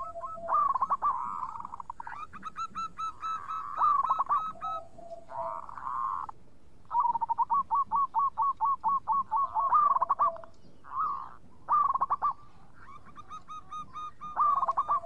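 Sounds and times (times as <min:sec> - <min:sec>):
dove cooing: 0:00.0 - 0:06.3, 0:06.9 - 0:15.0.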